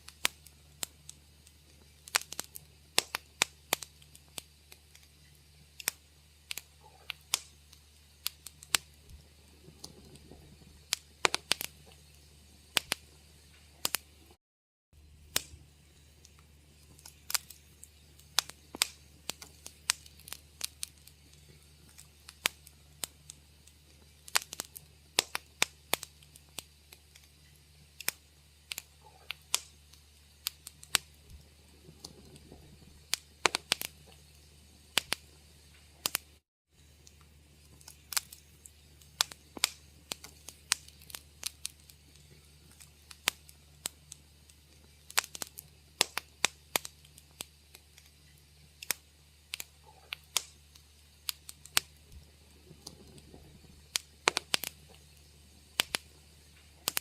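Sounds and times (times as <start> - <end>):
low steady hum: 0.0 - 14.4, 15.0 - 57.0
wood fire crackling and popping: 0.0 - 14.4, 15.0 - 57.0.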